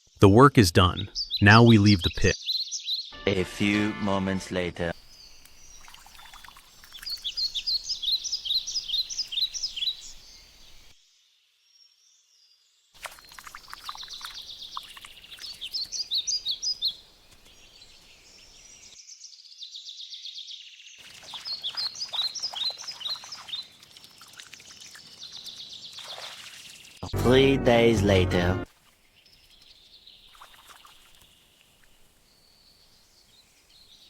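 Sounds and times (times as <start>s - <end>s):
songbirds chirping: 0.0s - 3.2s, 4.9s - 23.8s, 26.6s - 34.0s.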